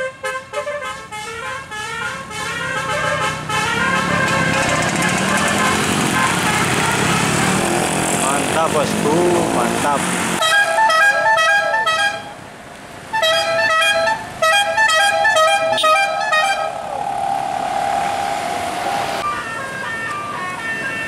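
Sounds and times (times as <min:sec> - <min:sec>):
multi-tone bus horn melody: 0:00.0 - 0:07.9, 0:10.4 - 0:12.4, 0:13.1 - 0:21.0.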